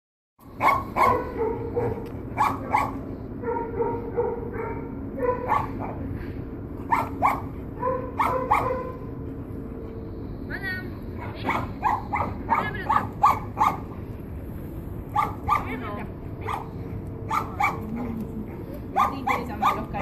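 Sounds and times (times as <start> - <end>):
dogs barking and yipping: 0.4 - 6.1, 6.8 - 9.4, 11.2 - 14.0, 15.1 - 20.0
faint steady whine: 0.4 - 20.0.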